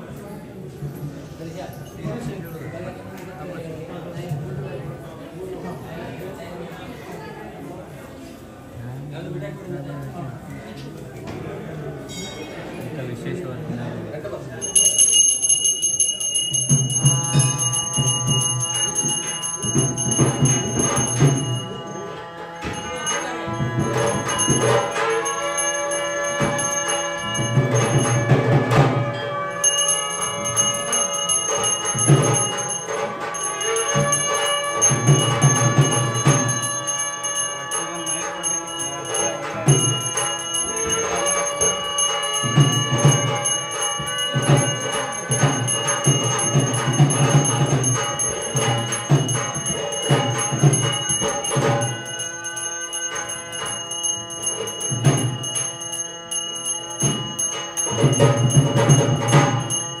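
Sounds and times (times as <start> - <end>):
temple bells ringing: 11.8 - 60.0.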